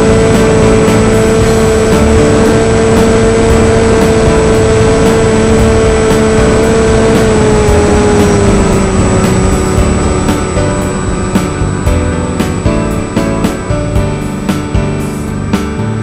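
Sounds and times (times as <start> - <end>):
model aircraft motor whine: 0.0 - 15.6
rushing air noise: 0.0 - 16.0.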